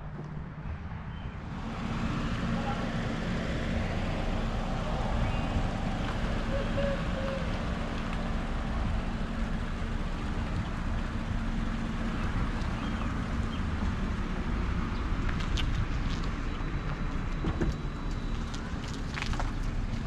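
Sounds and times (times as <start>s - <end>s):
car driving rumble: 0.0s - 20.0s
road and wind noise: 0.0s - 20.0s.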